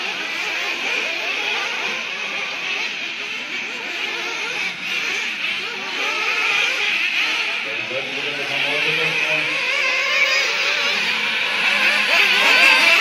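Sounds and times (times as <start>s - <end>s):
rc buggy motors revving: 0.0s - 13.0s.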